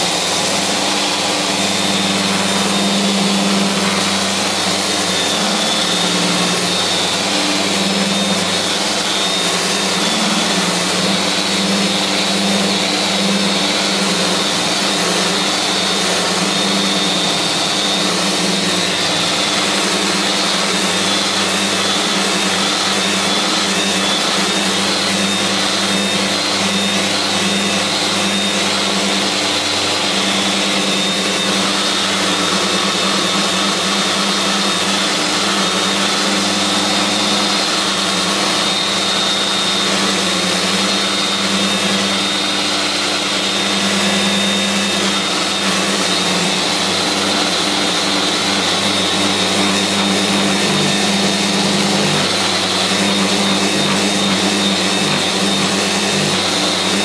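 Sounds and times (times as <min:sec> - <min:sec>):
dust extractor suction: 0:00.0 - 0:57.0
sander grinding wood: 0:00.0 - 0:57.0.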